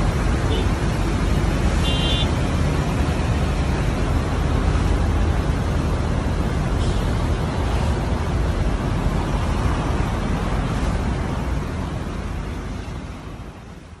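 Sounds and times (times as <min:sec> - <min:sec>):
flood water rushing: 0:00.0 - 0:13.7.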